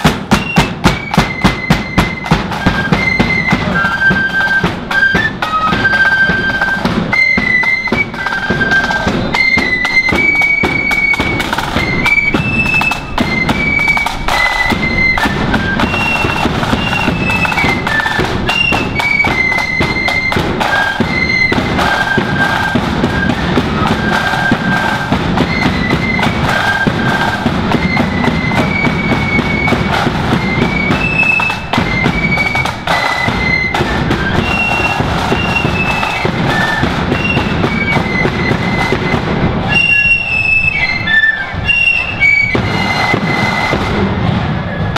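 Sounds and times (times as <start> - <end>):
flutes playing melody: 0.0 - 44.9
marching drum beat: 0.0 - 44.9.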